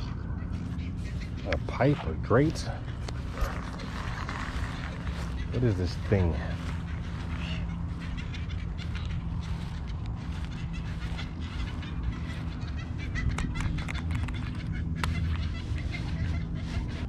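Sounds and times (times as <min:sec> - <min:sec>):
birds calling: 0:00.0 - 0:17.0
steady low hum: 0:00.0 - 0:17.0.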